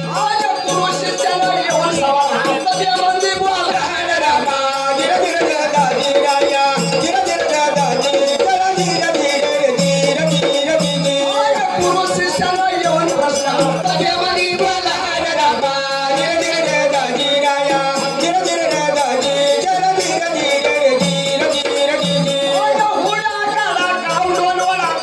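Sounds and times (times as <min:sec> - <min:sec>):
percussion strokes: 0:00.0 - 0:25.0
person singing: 0:00.0 - 0:25.0.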